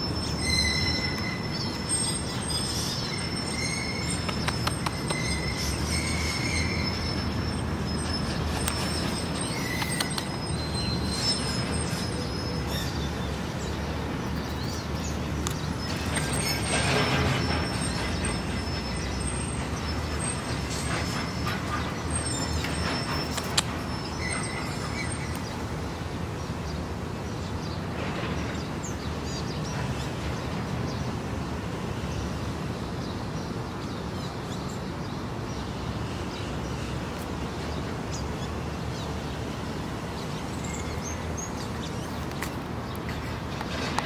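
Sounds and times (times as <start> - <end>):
distant traffic hum: 0.0 - 44.0.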